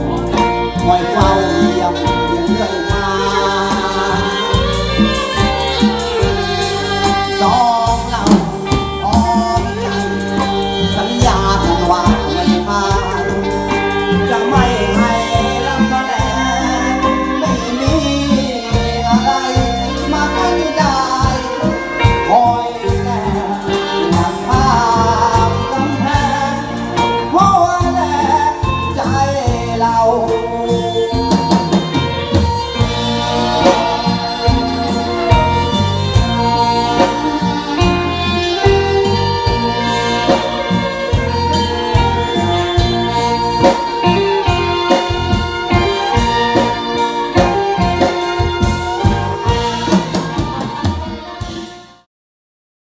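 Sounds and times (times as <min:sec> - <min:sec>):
man singing: 0:00.0 - 0:51.7
live brass band playing: 0:00.0 - 0:52.1.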